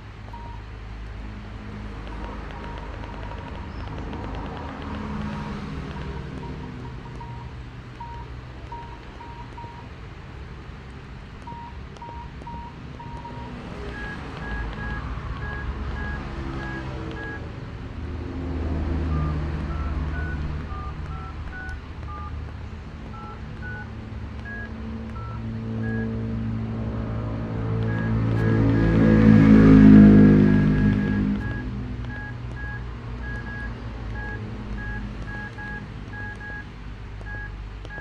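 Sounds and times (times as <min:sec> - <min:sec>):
phone beep ringtone: 0:00.3 - 0:00.7, 0:02.0 - 0:09.9, 0:11.4 - 0:17.4, 0:19.0 - 0:26.2, 0:27.7 - 0:36.7, 0:37.3 - 0:38.0.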